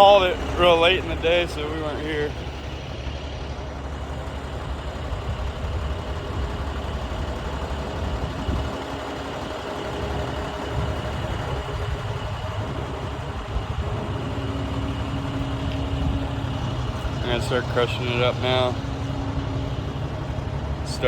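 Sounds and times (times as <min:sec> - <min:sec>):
heavy equipment engine idling: 0:00.0 - 0:21.0.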